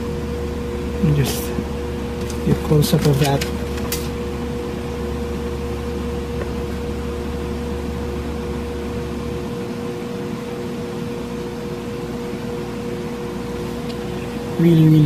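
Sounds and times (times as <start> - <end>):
steady tones: 0.0 - 14.9.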